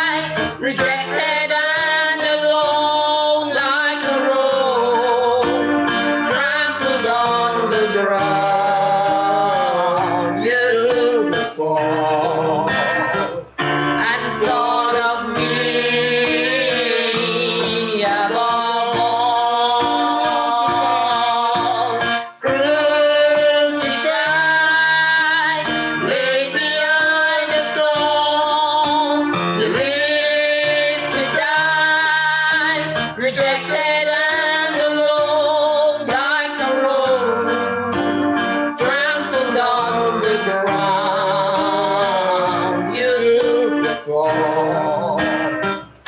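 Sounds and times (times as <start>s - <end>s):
worship song with singing: 0.0s - 45.9s.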